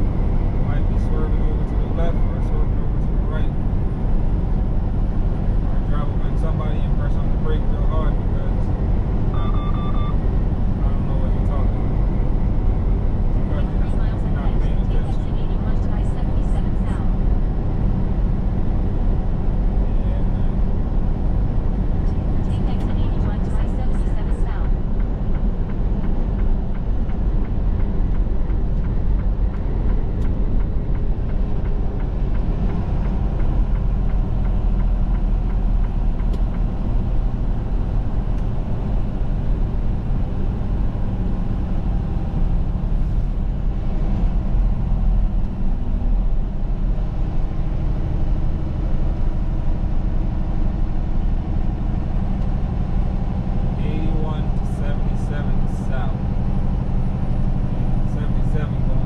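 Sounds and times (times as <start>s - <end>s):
road noise: 0.0s - 59.0s
truck diesel engine rumble: 0.0s - 59.0s.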